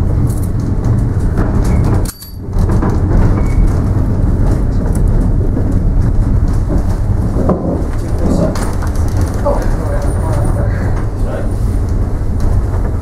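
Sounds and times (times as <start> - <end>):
tram car body rattling: 0.0 - 13.0
tram wheels rumbling on rails: 0.0 - 13.0.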